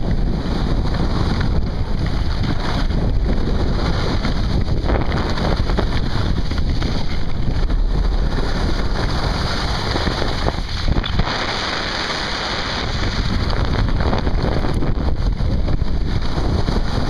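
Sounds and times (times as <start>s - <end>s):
skis sliding on snow: 0.0s - 17.0s
wind buffeting microphone: 0.0s - 17.0s.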